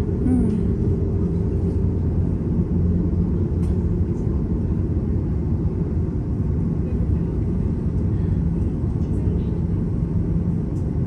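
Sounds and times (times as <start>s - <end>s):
airliner engines rumbling in cabin: 0.0s - 11.0s.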